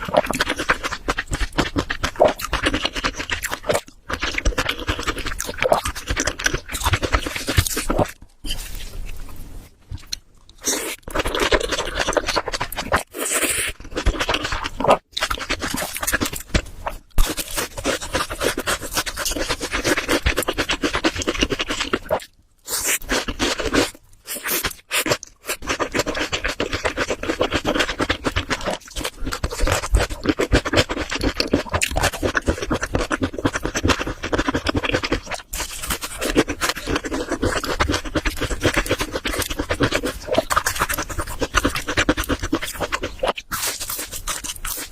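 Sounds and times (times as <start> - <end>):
wet chewing and mouth noises: 0.0 - 44.9.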